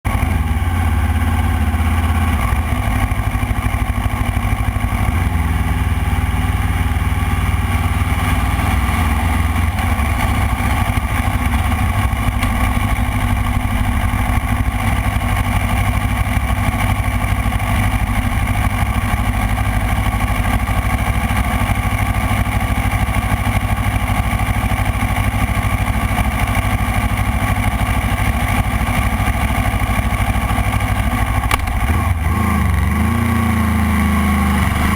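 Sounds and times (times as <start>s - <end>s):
motorcycle engine running loudly: 0.1s - 34.9s.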